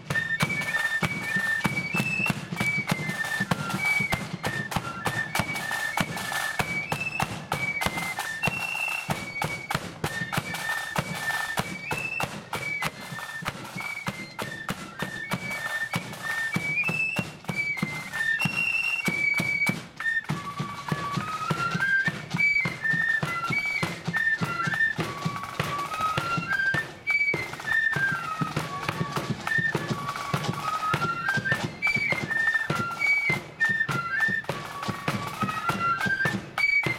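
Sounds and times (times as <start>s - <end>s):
flutes playing melody: 0.0s - 36.9s
snare drums: 0.0s - 36.9s.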